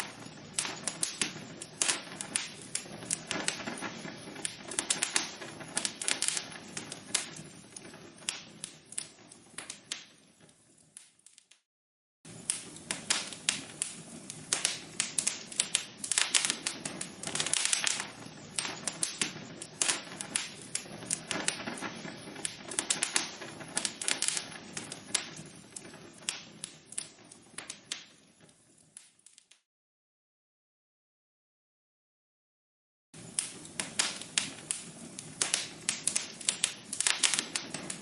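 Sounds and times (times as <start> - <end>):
logs crackling in a fireplace: 0.0 - 11.6, 12.3 - 29.6, 33.2 - 38.0.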